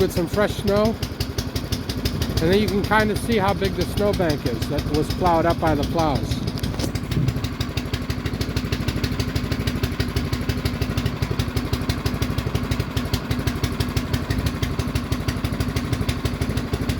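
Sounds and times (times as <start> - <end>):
engine idling: 0.0 - 16.9.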